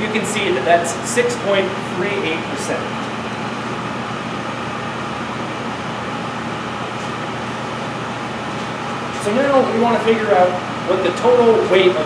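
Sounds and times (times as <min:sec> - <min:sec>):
ventilation hum and hiss: 0:00.0 - 0:12.0.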